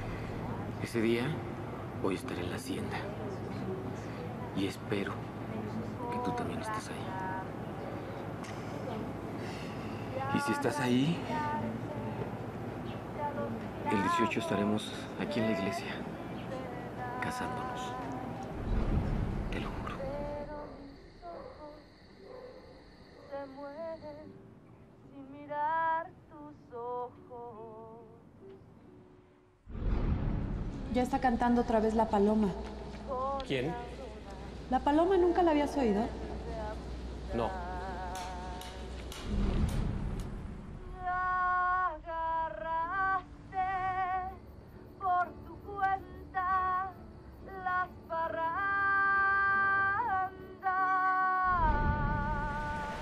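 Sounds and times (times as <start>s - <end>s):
woman singing wordless melody: 3.0s - 18.8s, 19.6s - 29.1s, 31.0s - 39.1s, 40.7s - 53.0s.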